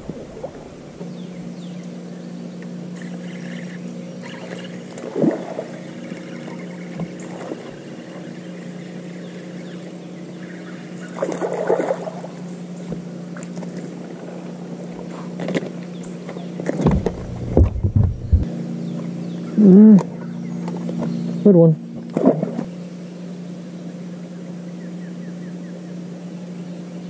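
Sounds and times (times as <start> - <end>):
trolling motor hum: 0.0 - 27.0.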